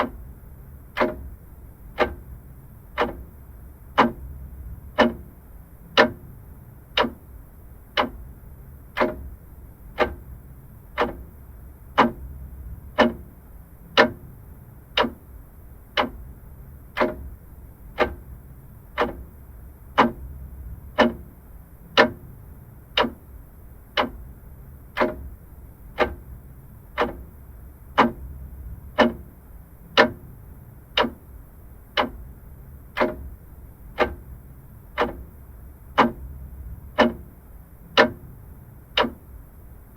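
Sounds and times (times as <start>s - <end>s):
faint low hum: 0.0s - 39.9s
mechanical clock ticking: 0.0s - 39.9s.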